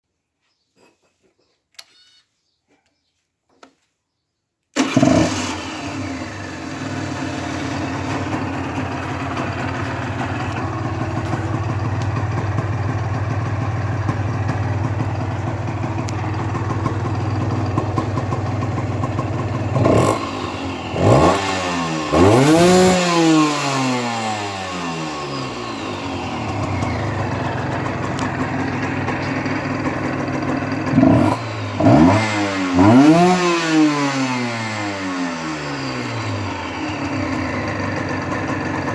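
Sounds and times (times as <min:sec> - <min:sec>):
motorcycle engine idling: 0:04.8 - 0:38.9
motorcycle engine revving: 0:04.8 - 0:38.9.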